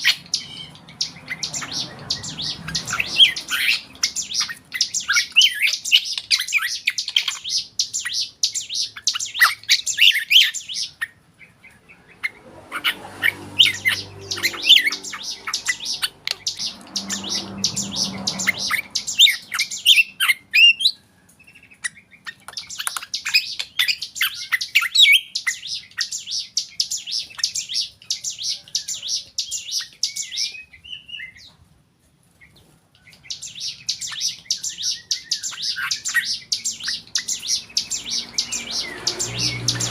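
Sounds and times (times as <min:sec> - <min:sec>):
bird singing chattering phrases: 0:00.0 - 0:20.9, 0:21.5 - 0:31.5, 0:33.1 - 0:39.9.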